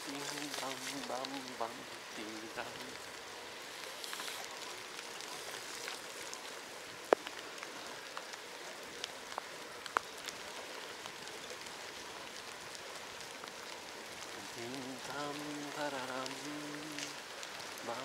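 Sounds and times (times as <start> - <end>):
water drops pattering: 0.0 - 3.1, 4.0 - 18.0.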